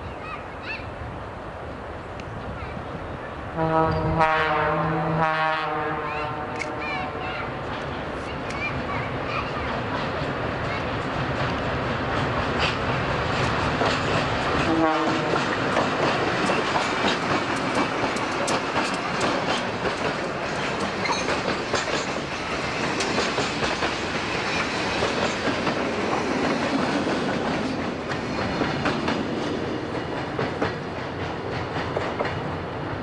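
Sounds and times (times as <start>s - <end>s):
diesel locomotive engine passing: 0.0s - 33.0s
train wheels clacking on rails: 6.1s - 33.0s.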